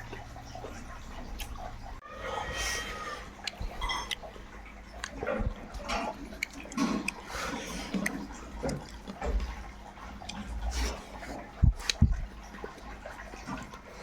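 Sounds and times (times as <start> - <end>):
wet chewing and slurping: 0.0 - 14.0.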